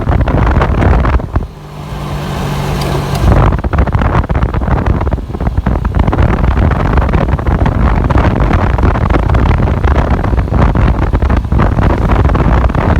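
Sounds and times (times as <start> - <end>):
motorcycle road and engine noise: 0.0 - 12.9
wind buffeting microphone: 0.0 - 12.9.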